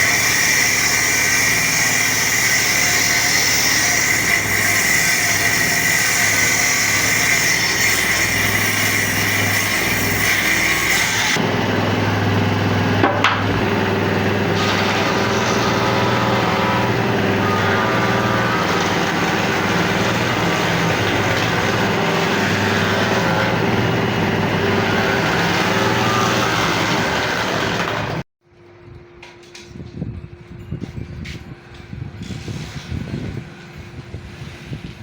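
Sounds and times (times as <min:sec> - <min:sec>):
woodworking machine motor running: 0:00.0 - 0:28.3.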